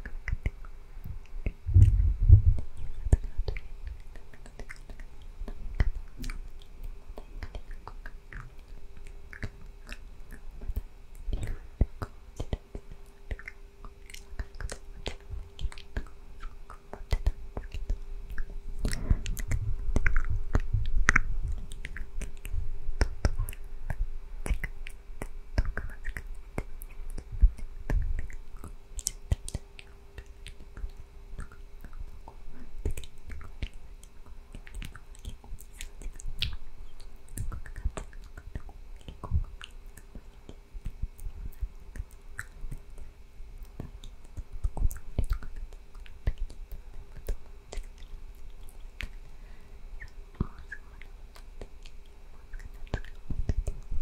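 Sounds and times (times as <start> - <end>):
close whispering with mouth clicks: 0.0 - 49.4, 50.0 - 54.0.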